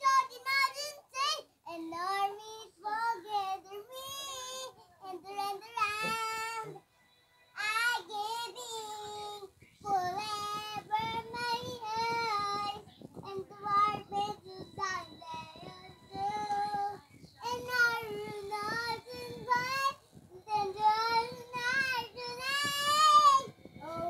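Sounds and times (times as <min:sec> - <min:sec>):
girl singing unaccompanied: 0:00.0 - 0:06.8, 0:07.6 - 0:24.0.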